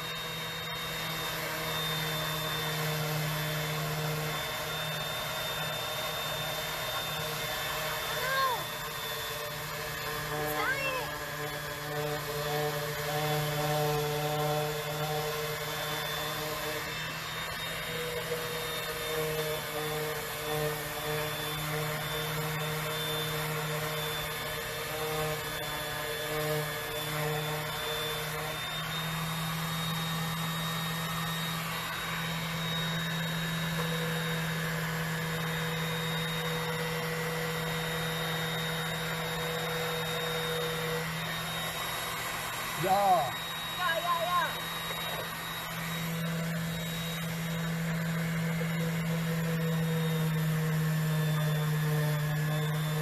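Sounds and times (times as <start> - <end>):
electric sander on wood: 0.0 - 53.0.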